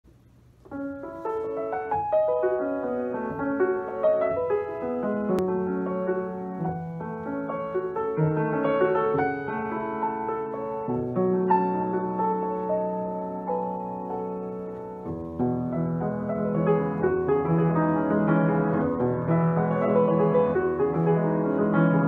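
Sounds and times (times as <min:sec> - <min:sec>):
grand piano playing: 0:00.6 - 0:22.0.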